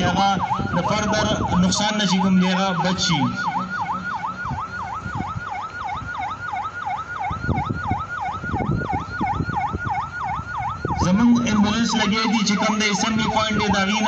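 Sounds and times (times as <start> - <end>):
emergency siren yelping: 0.0 - 14.0.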